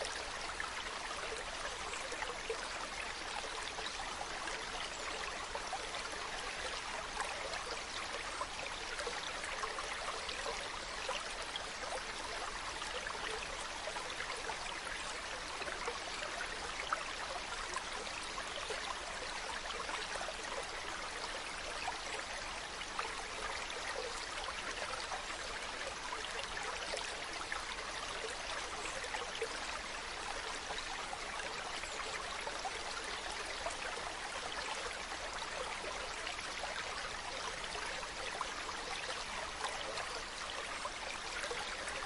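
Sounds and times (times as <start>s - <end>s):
stream running over rocks: 0.0s - 42.0s.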